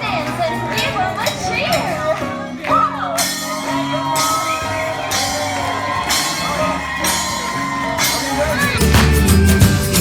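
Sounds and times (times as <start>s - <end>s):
upbeat music with beat: 0.0s - 10.0s.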